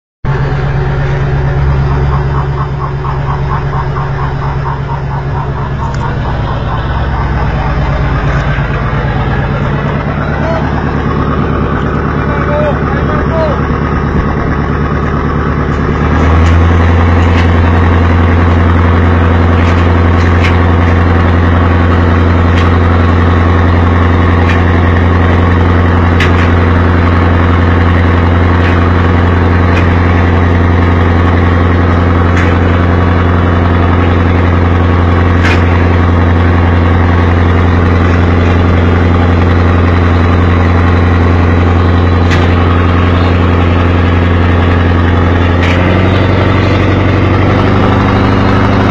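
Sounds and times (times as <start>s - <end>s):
boat engine humming: 0.2s - 48.9s.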